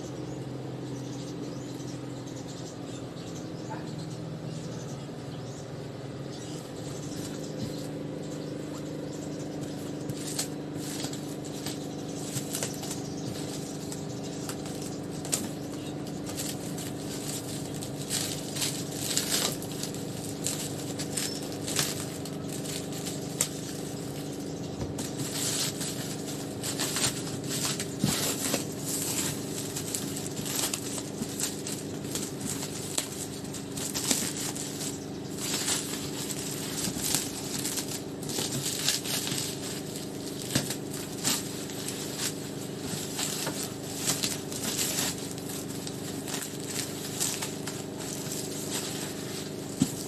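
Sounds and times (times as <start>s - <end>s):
steady low hum: 0.0s - 50.0s
plastic bags rustling: 6.7s - 50.0s.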